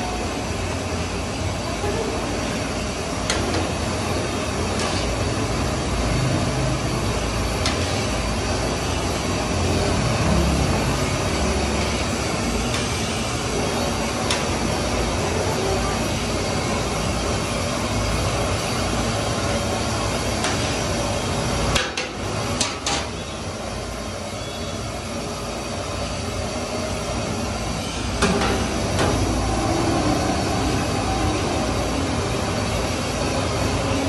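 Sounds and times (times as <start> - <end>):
gas burner rushing: 0.0 - 34.0.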